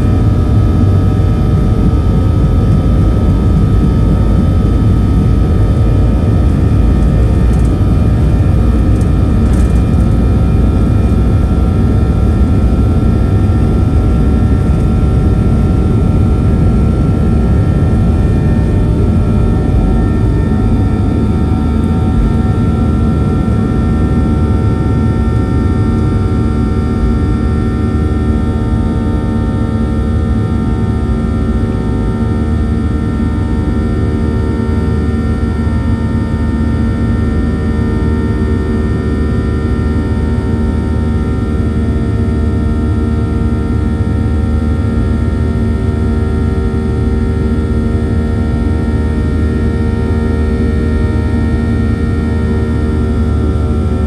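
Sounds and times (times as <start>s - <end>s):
jet engines heard from cabin: 0.0s - 54.0s.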